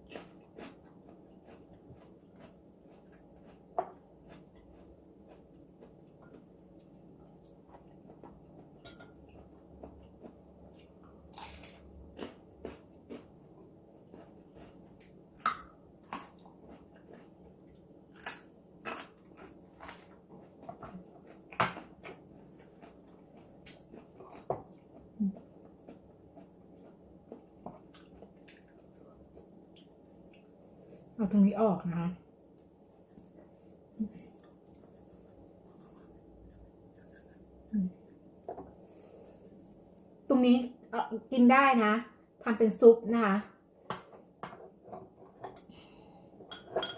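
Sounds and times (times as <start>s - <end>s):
person chewing crunchy food: 0.0s - 31.1s, 32.6s - 40.0s.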